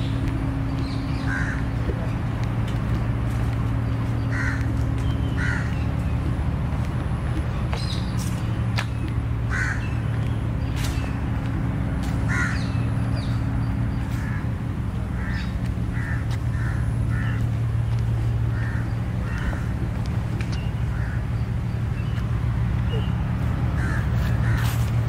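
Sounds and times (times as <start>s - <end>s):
birds calling harshly: 0.0s - 2.2s, 3.3s - 6.7s, 7.4s - 25.0s
steady low hum: 0.0s - 25.0s.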